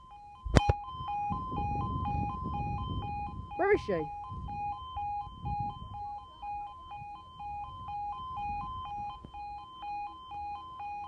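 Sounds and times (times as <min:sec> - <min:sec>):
two-tone crossing alarm: 0:00.0 - 0:11.0.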